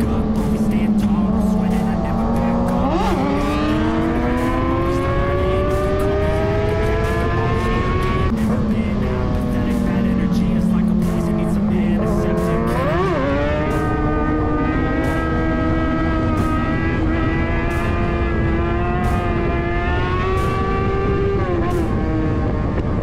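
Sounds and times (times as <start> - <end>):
motorcycle engine at high revs: 0.0 - 23.0
road and air noise: 0.0 - 23.0.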